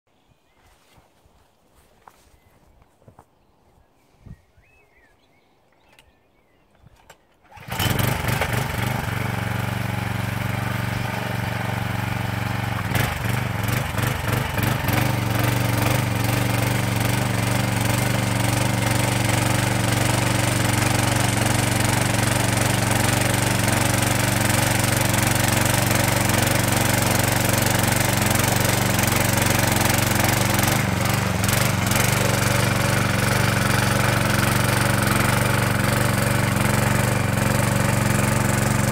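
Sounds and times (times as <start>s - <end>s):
tiller engine running: 7.4s - 38.9s.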